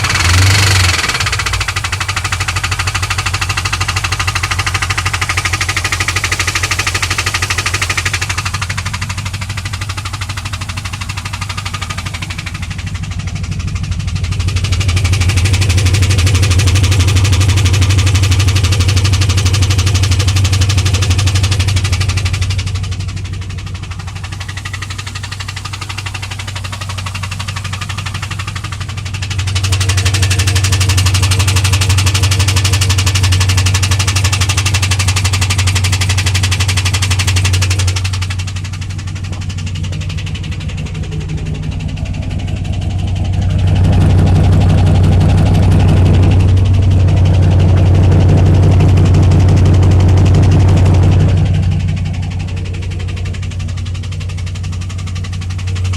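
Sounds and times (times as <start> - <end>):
car engine idling: 0.0 - 55.9
engine ticking and knocking: 0.0 - 55.9.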